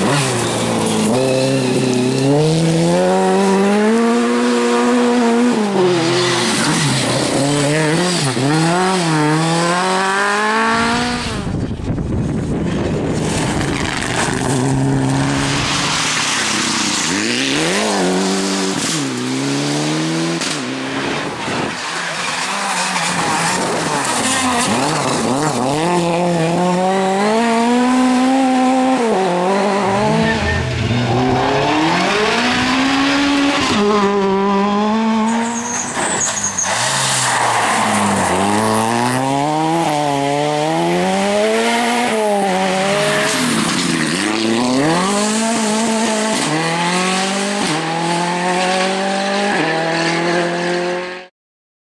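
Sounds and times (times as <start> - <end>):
gravel and tyre noise: 0.0 - 51.3
rally car engines revving: 0.0 - 51.3.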